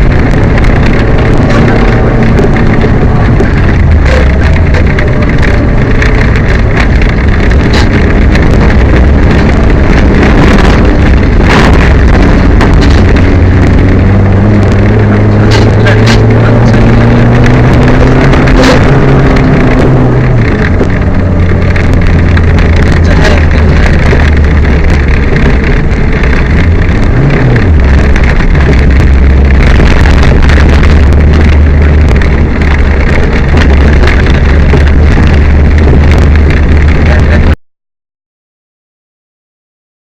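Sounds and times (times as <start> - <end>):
rally car engine under load: 0.0 - 37.6
road noise: 0.0 - 37.6
wind noise: 0.0 - 37.6.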